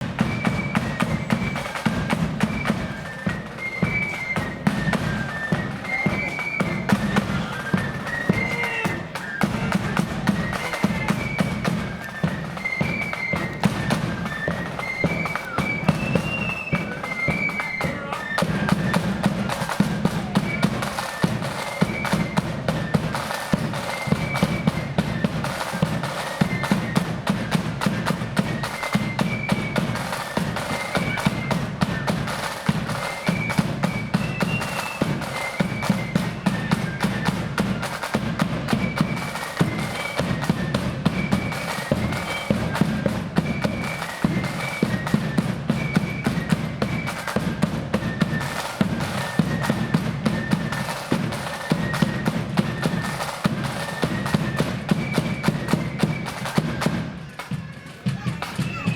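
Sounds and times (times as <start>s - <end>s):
high flute melody: 0.0s - 57.4s
rapid snare drumming: 0.0s - 58.9s.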